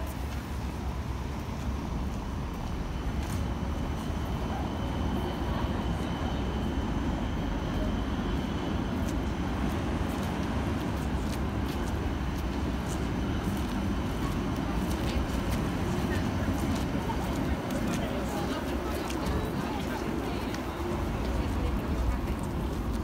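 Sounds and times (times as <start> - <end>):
rumble of cars: 0.0 - 23.0
tram passing: 0.0 - 23.0.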